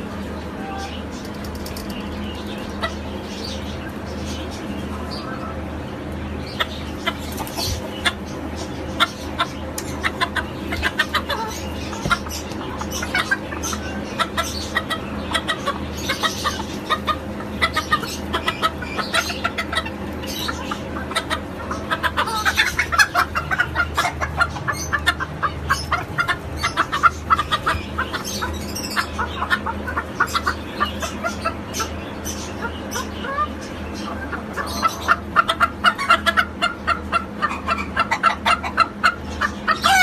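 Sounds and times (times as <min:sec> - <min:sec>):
steady low hum: 0:00.0 - 0:39.9
chickens clucking: 0:00.0 - 0:40.0.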